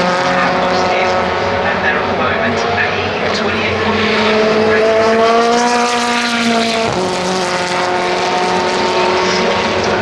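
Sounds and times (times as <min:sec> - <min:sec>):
racing car engine high revs: 0:00.0 - 0:10.0.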